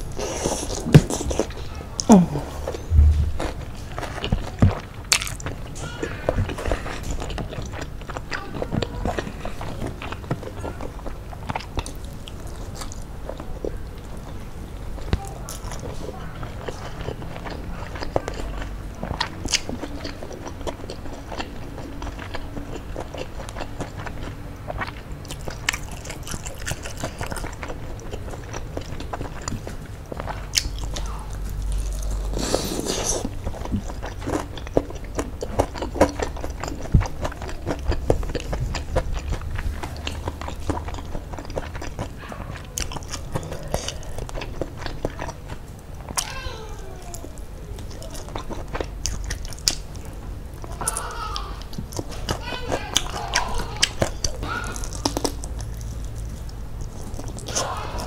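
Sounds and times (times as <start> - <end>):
biting and chewing fried chicken: 0.0 - 58.0
crackling crust: 0.0 - 58.0.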